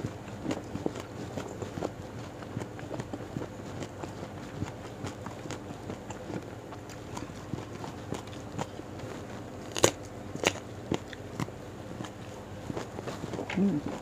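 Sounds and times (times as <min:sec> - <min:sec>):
chewing crunchy vegetables: 0:00.0 - 0:14.0.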